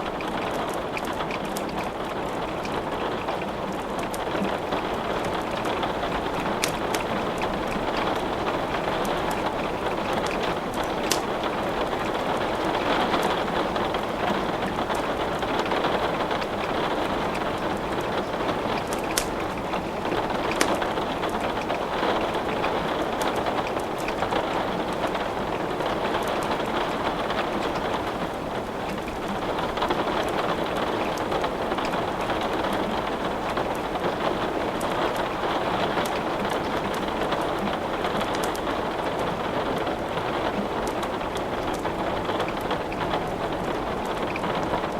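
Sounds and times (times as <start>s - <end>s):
steady rain: 0.0s - 44.9s
wood crackling in a fireplace: 0.0s - 44.9s.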